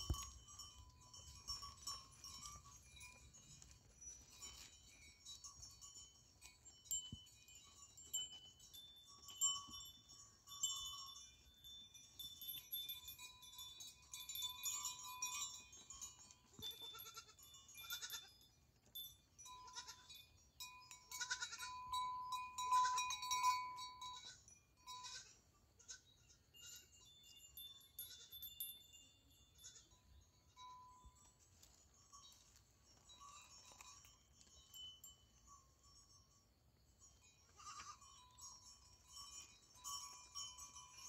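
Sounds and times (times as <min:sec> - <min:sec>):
high tinkling chime tones: 0:00.0 - 0:25.3, 0:26.2 - 0:41.0.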